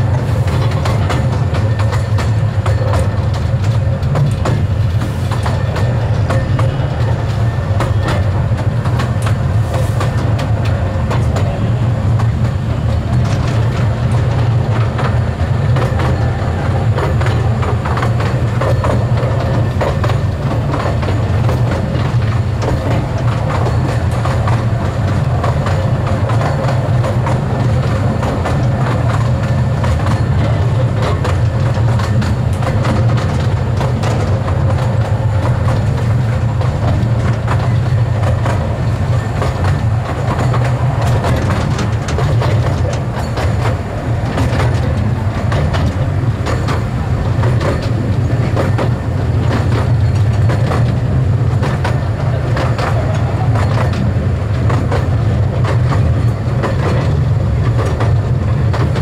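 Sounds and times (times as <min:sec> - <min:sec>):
miniature train rumbling: 0:00.0 - 0:59.0
wheels clacking on rails: 0:00.0 - 0:59.0.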